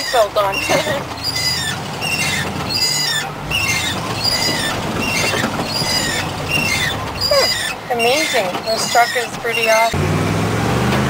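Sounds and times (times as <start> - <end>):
high-pitched squeak: 0.0 - 10.0
truck engine at low revs: 0.0 - 11.0.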